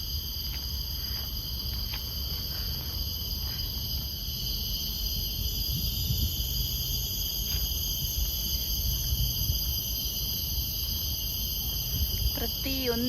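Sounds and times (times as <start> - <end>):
forest insects droning: 0.0 - 13.0.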